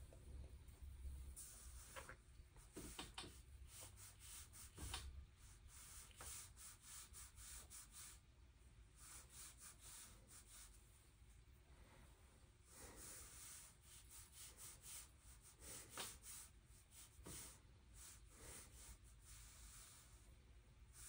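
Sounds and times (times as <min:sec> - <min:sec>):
brush strokes on paper: 0:01.2 - 0:08.3, 0:08.9 - 0:12.0, 0:12.6 - 0:21.0.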